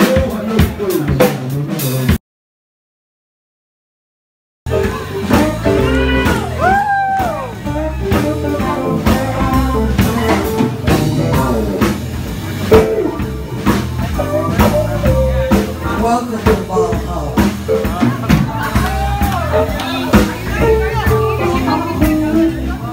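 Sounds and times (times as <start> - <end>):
live blues band playing: 0.0 - 2.2, 4.7 - 22.9.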